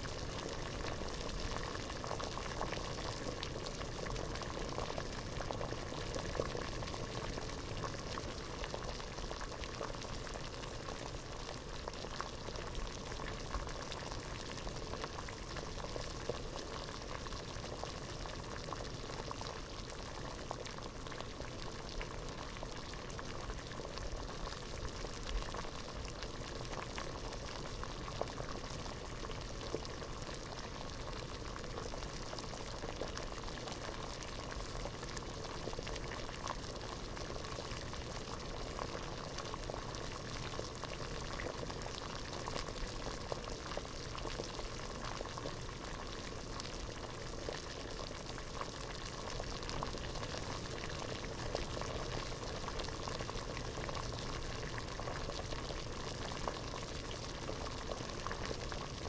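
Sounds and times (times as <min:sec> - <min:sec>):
water boiling in a pot: 0:00.0 - 0:59.0.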